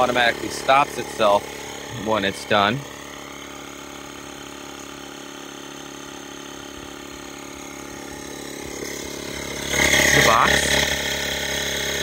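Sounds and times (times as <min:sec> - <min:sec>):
tire inflator humming: 0:00.0 - 0:12.0.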